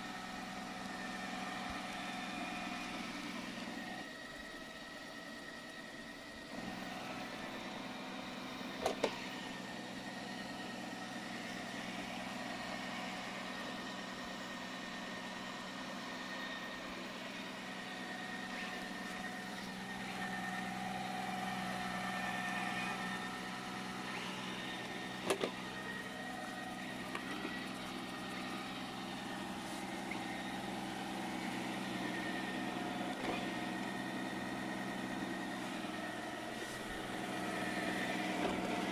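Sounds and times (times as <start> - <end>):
robot vacuum cleaner motor hum: 0.0 - 38.9.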